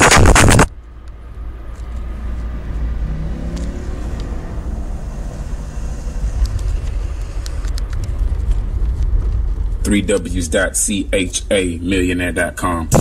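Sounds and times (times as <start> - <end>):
car engine idling: 1.1 - 12.7.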